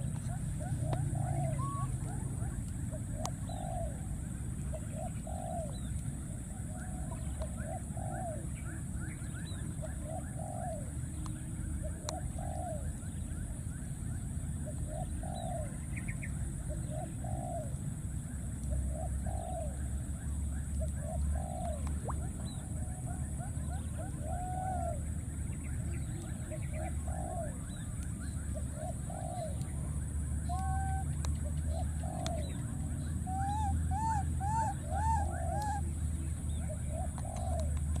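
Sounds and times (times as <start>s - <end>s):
bird cooing: 0.0s - 13.0s, 14.6s - 15.8s, 16.7s - 17.8s, 18.8s - 20.0s, 20.8s - 25.1s, 25.9s - 38.0s.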